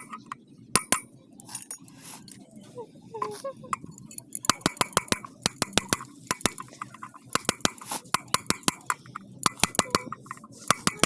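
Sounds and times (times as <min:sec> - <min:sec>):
metal tapping on metal: 0:00.0 - 0:01.8, 0:03.2 - 0:11.0.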